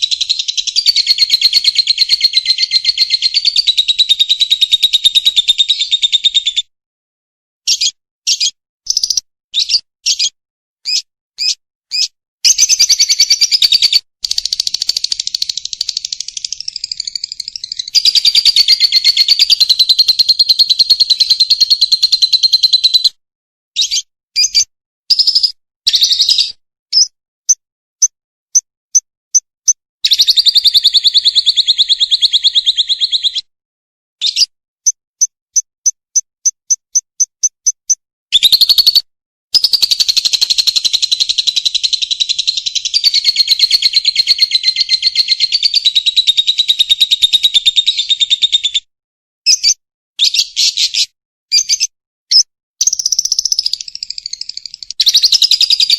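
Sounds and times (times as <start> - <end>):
lovebird singing shrill trills: 0.0 - 6.4, 7.7 - 23.1, 23.8 - 27.1, 30.0 - 33.5, 37.6 - 39.0, 39.6 - 48.2, 49.5 - 55.9.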